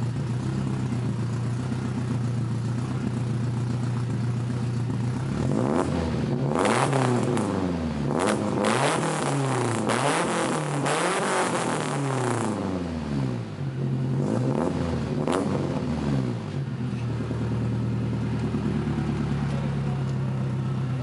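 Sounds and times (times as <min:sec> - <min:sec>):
car engine revving and idling: 0:00.0 - 0:21.0.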